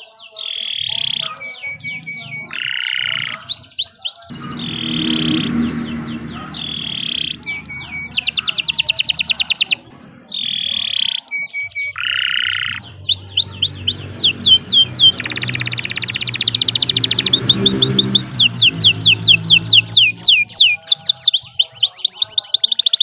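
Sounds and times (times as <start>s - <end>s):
canary singing: 0.0s - 23.0s.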